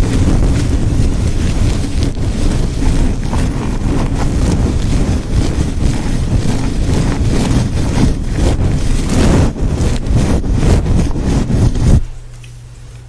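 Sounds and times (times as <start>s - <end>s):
rubbing against microphone: 0.0s - 13.0s.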